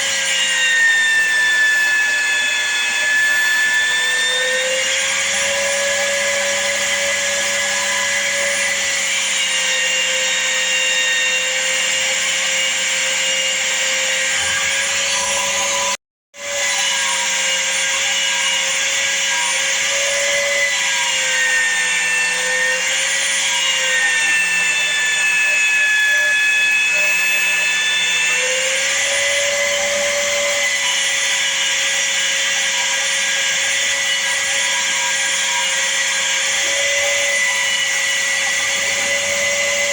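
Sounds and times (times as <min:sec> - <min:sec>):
electric sander whining: 0:00.0 - 0:39.9.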